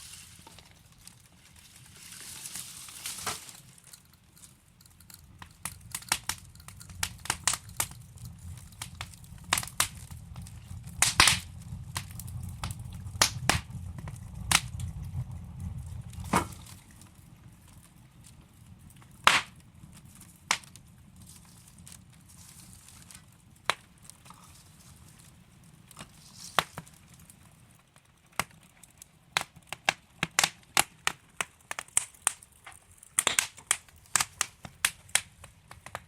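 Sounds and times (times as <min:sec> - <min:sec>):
logs crackling and popping: 0:00.0 - 0:36.0
rumble of flames: 0:00.0 - 0:36.0.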